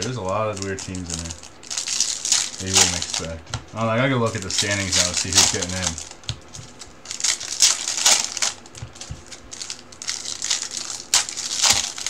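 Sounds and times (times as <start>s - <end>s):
cards rustling and sliding: 0.0s - 12.0s
wrappers crinkling: 0.0s - 12.0s.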